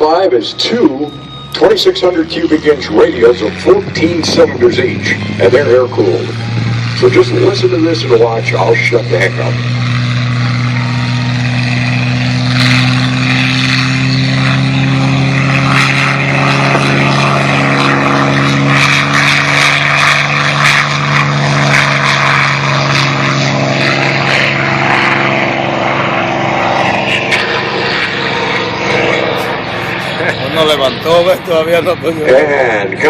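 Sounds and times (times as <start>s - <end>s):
propeller engines droning: 0.0s - 33.0s.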